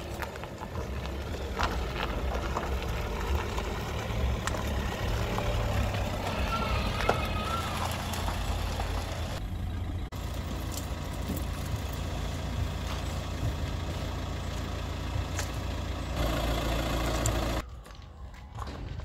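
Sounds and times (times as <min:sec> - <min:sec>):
vehicle engine idling: 0:00.0 - 0:17.7.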